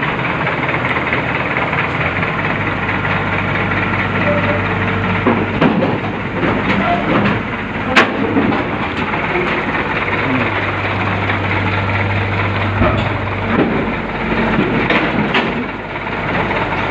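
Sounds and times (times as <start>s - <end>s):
heavy engine running: 0.0s - 16.9s.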